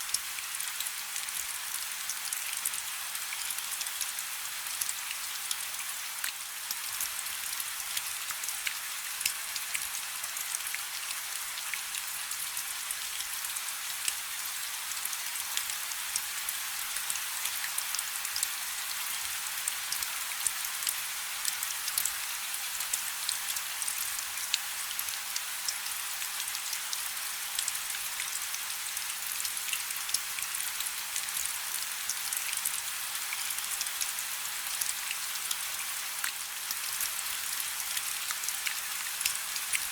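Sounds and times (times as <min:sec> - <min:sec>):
rain falling on a river: 0:00.0 - 0:39.9.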